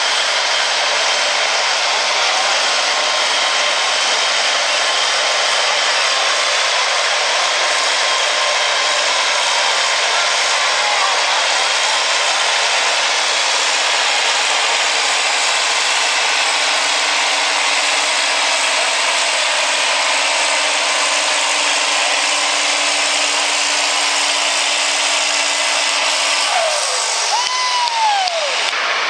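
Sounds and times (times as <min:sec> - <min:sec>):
tractor diesel engine at full throttle: 0:00.0 - 0:29.0.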